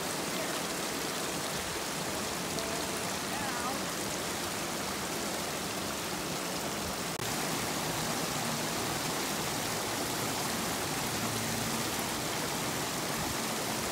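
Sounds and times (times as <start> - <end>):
creek water rushing over rocks: 0.0 - 13.9.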